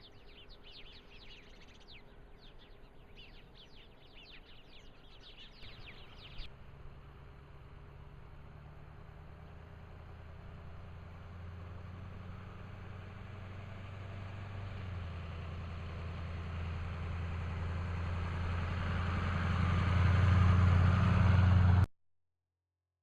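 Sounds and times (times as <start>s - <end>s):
vehicle engine humming: 0.0s - 21.9s.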